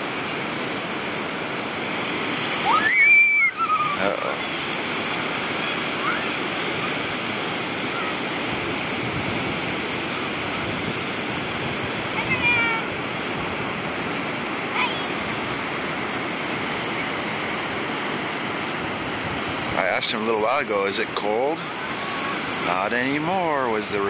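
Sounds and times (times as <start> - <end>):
surf washing onto beach: 0.0 - 24.0.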